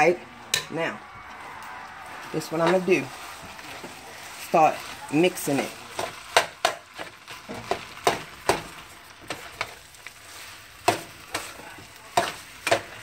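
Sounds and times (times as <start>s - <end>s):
soft sizzle from pan: 0.0s - 13.0s
metal spatula scraping skillet: 2.5s - 13.0s.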